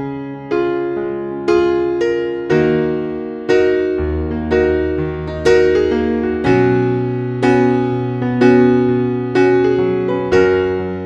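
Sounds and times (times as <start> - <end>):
slow electric piano chords: 0.0 - 11.0.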